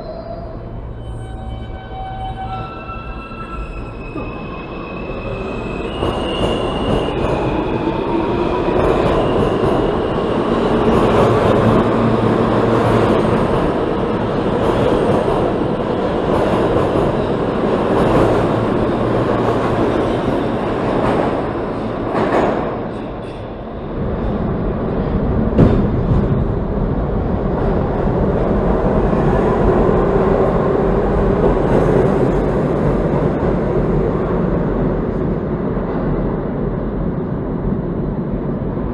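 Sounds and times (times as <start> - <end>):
subway train wheels rumbling: 0.0 - 38.9.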